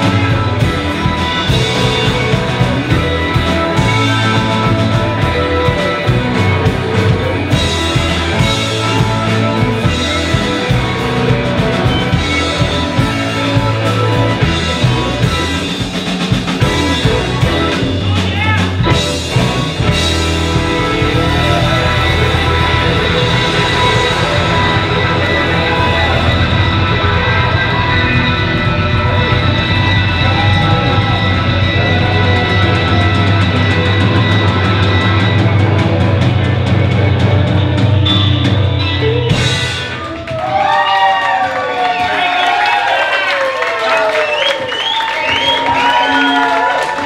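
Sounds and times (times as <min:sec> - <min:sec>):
drum kit: 0:00.0 - 0:47.0
electric guitars: 0:00.0 - 0:47.0
keyboards: 0:00.0 - 0:47.0.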